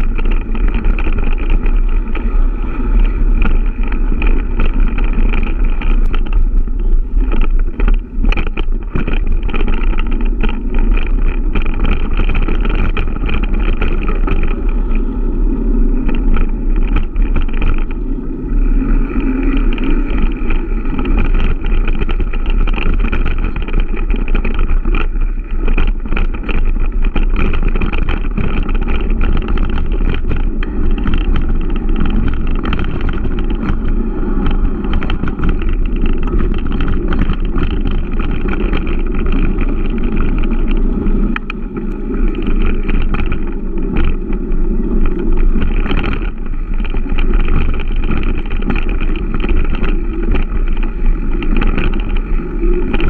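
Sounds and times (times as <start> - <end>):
bike knocks and rattles: 0.0 - 53.0
tyre and wind rumble: 0.0 - 53.0.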